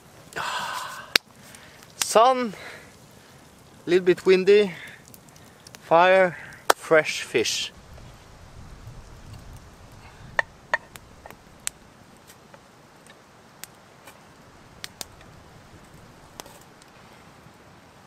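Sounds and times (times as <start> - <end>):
faint frying hiss: 0.0 - 18.0
frying pops and crackles: 0.0 - 18.0.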